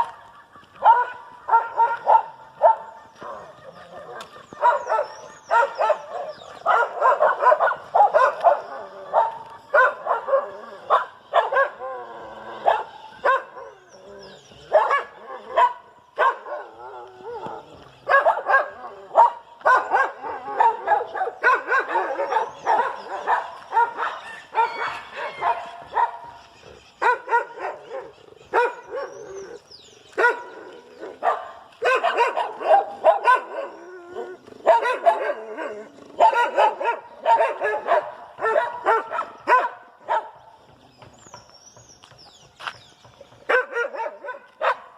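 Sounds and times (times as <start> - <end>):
dog barking: 0.8 - 13.8, 14.6 - 40.5, 43.5 - 44.9.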